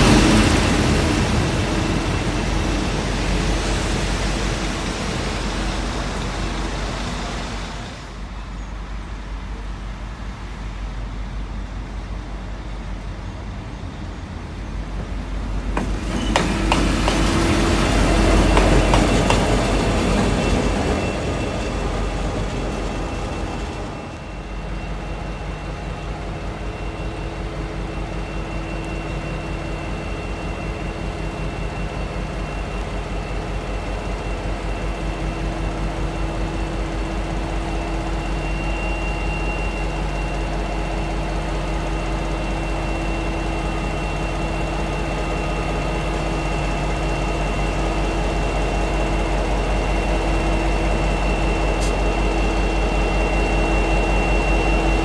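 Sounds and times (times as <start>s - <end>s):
high whine: 0.0s - 8.7s, 12.6s - 55.0s
locomotive and carriages rolling past: 0.0s - 55.0s.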